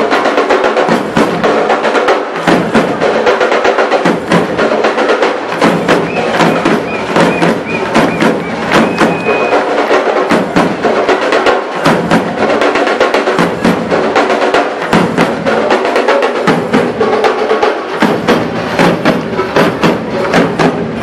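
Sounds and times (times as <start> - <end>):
fast drum rhythm: 0.0 - 21.0.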